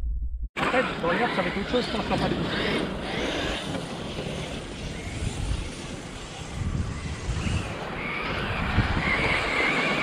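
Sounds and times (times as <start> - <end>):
wind buffeting microphone: 0.7 - 10.0.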